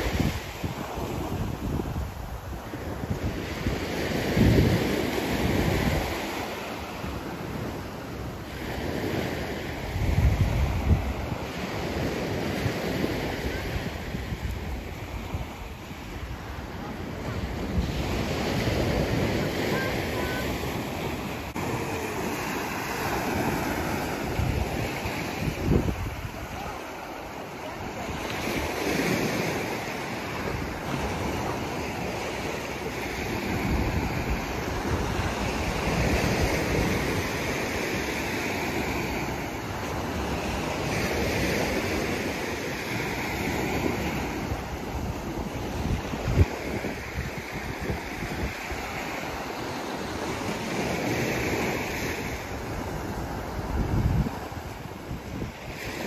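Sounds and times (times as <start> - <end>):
small waves breaking on beach: 0.0 - 56.0
wind rumbling on microphone: 0.0 - 56.0.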